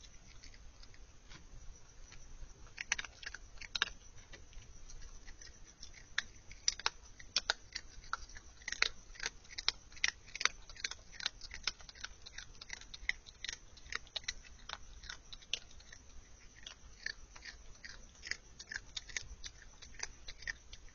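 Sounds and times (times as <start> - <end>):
opossum crunching dry kibble: 0.0 - 20.9.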